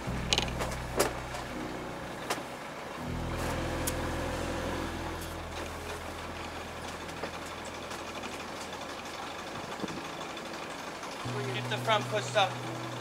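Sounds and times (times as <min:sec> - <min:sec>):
boat engine idling hum: 0:00.0 - 0:13.0.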